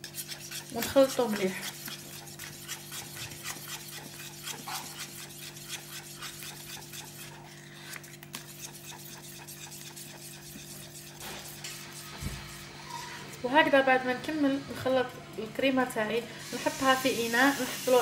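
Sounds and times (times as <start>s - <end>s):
whisk scraping a metal pan: 0.0s - 18.0s.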